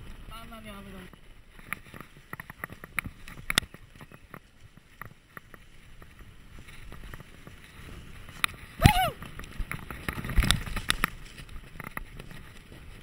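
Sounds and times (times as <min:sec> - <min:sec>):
mountain bike knocking and rattling: 0:01.0 - 0:08.6, 0:09.2 - 0:13.0.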